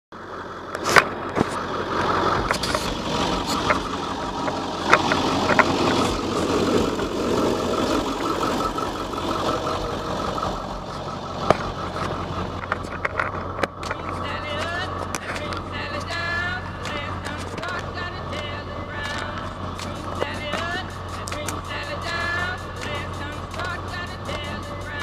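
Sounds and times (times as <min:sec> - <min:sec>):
diesel engine running: 0:00.1 - 0:25.0.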